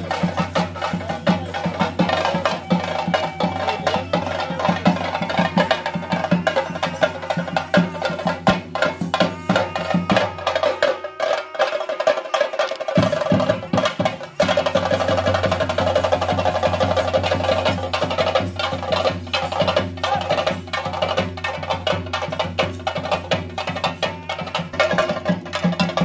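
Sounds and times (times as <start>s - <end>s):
drums played with sticks: 0.0s - 26.0s.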